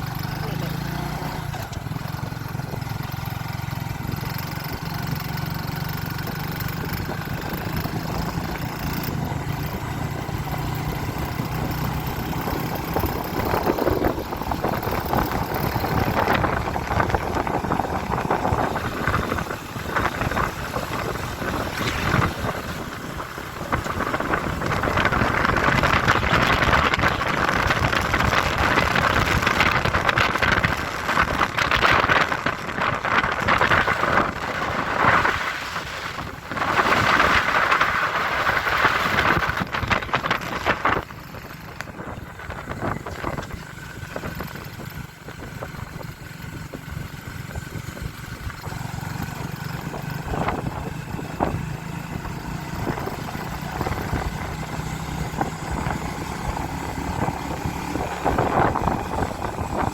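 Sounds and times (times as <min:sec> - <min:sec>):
motorcycle engine running: 0:00.0 - 0:59.9
wind rushing on microphone: 0:04.0 - 0:59.9.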